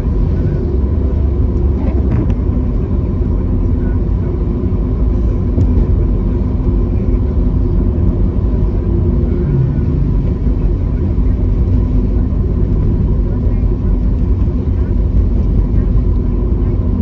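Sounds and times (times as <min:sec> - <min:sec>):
car engine and tyres on wet road: 0:00.0 - 0:17.0.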